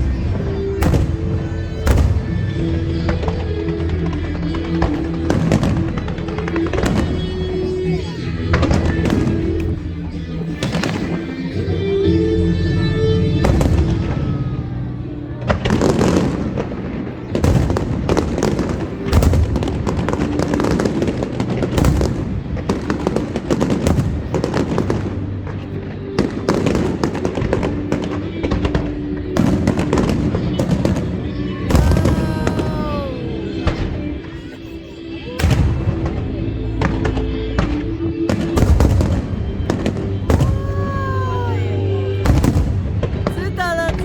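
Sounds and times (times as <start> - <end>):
fireworks bangs and crackles: 0.0 - 12.2, 12.8 - 44.0
music: 0.0 - 44.0.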